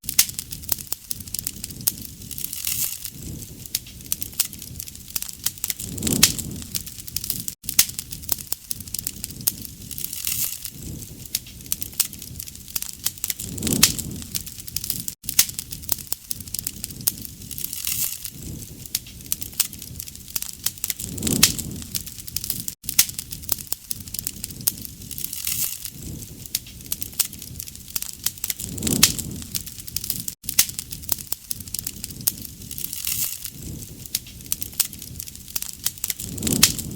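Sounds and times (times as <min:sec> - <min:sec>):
bonfire crackling and popping: 0:00.0 - 0:36.9.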